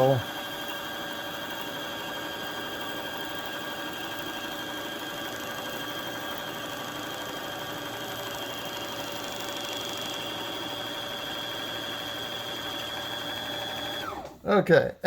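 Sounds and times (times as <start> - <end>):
sewing machine humming: 0.0 - 14.4.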